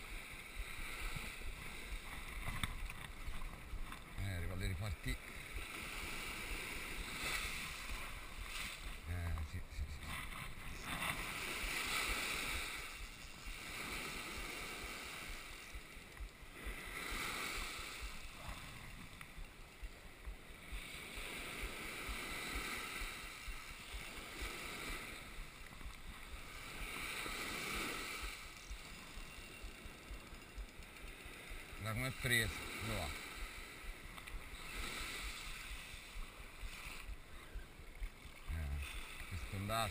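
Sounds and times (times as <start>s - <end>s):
small waves breaking on sand: 0.0s - 39.9s.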